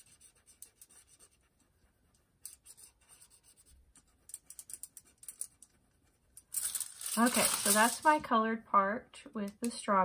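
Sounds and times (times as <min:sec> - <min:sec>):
marker scratching on foil: 0:00.0 - 0:08.2.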